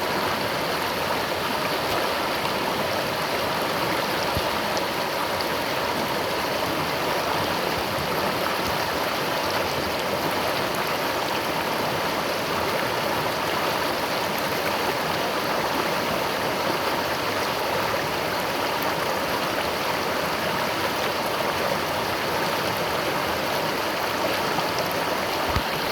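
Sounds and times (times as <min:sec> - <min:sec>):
river water flowing over rocks: 0:00.0 - 0:25.9.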